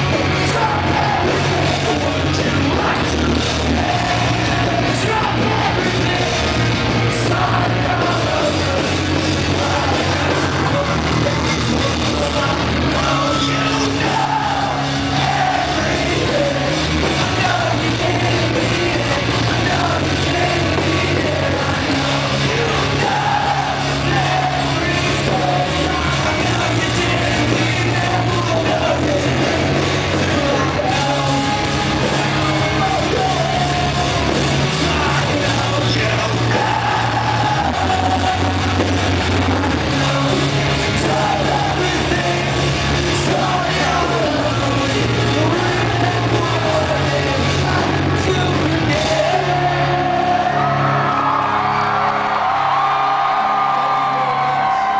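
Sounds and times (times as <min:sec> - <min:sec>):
held bass notes: 0:00.0 - 0:54.9
lead singer singing: 0:00.0 - 0:54.9
live rock band playing: 0:00.0 - 0:54.9.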